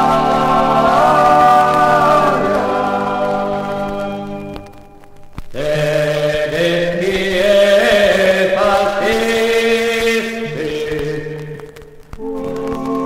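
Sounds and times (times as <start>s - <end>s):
men singing together: 0.0s - 4.4s, 5.6s - 11.7s.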